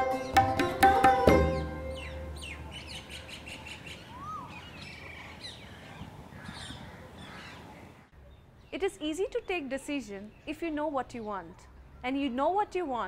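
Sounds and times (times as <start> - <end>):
birds chirping and twittering: 1.5 - 12.4.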